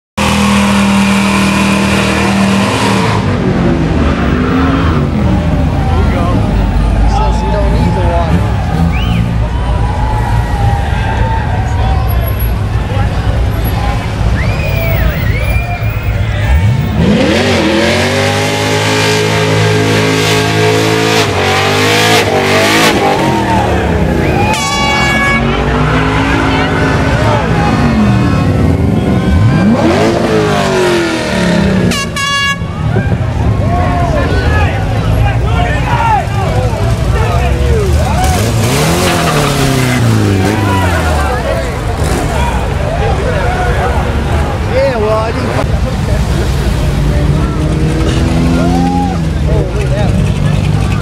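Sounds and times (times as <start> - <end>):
car engine revving: 0.2 - 10.7, 11.9 - 32.2, 36.3 - 51.0.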